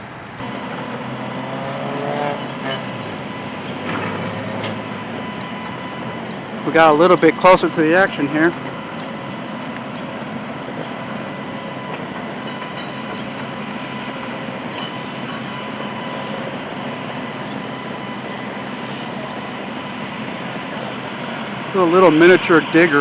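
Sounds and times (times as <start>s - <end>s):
construction machinery running: 0.0s - 23.0s.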